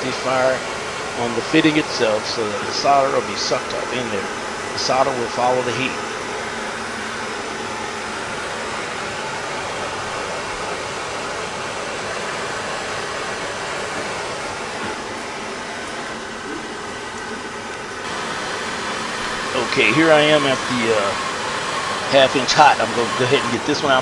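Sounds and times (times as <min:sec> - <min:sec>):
gas torch hissing: 0:00.0 - 0:16.9, 0:18.0 - 0:24.0.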